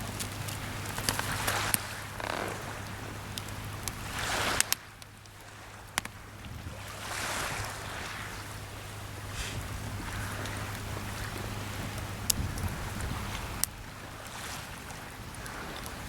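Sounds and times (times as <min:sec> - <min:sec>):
campfire popping: 0:00.0 - 0:06.4, 0:08.7 - 0:16.0
small waves washing ashore: 0:00.0 - 0:16.0.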